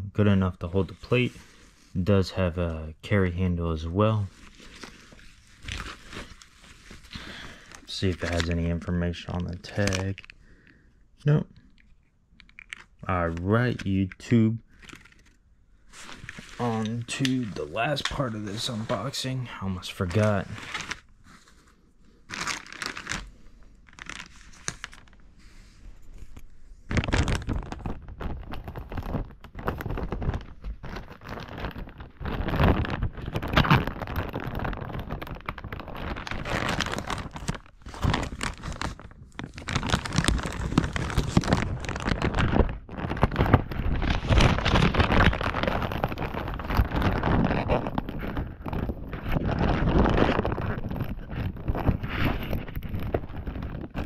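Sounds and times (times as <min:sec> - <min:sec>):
packaging crinkling and tearing: 0:03.2 - 0:54.0.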